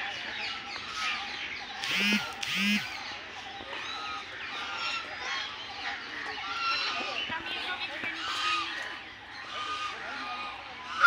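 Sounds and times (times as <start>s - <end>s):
birds chirping: 0.0s - 11.0s
geese honking: 0.0s - 11.0s.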